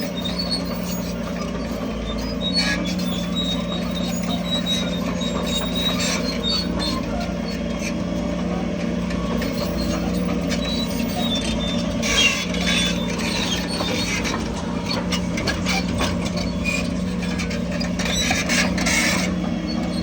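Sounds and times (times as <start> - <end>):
metallic squeaks and clinks: 0.0 - 7.9, 9.3 - 20.0
diesel construction machinery running: 0.0 - 20.0.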